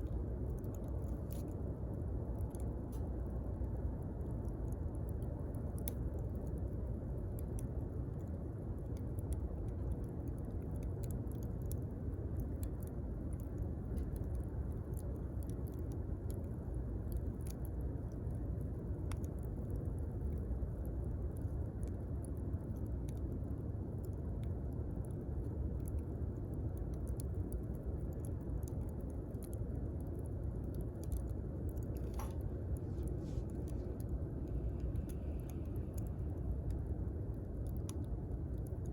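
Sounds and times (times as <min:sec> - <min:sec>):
low rumble of fire: 0:00.0 - 0:38.9
campfire crackling and popping: 0:03.9 - 0:38.9.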